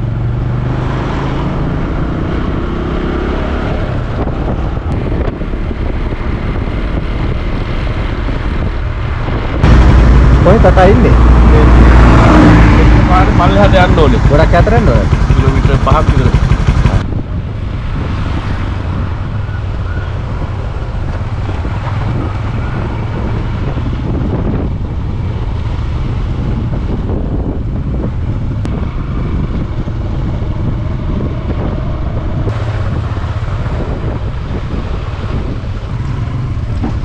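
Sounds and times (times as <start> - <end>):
wind noise on microphone: 0.0 - 15.6, 16.2 - 37.0
motorcycle engine drone: 0.0 - 37.0.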